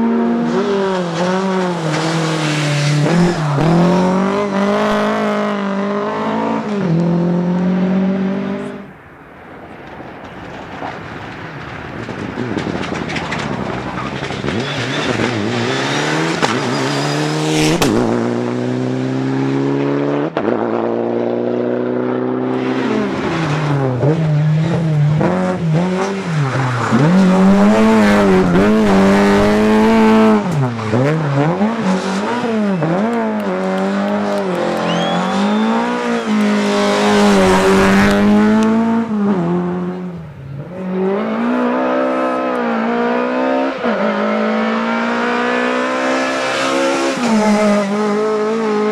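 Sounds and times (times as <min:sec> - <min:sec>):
rally car engine revving: 0:00.0 - 0:08.9, 0:11.7 - 0:48.9.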